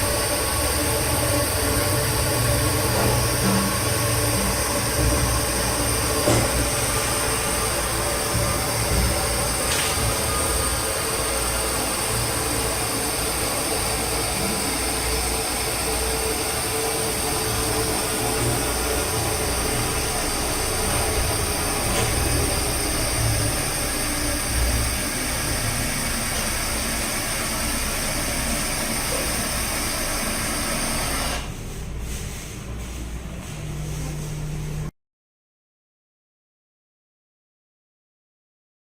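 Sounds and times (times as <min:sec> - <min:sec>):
toilet flushing: 0:00.0 - 0:32.0.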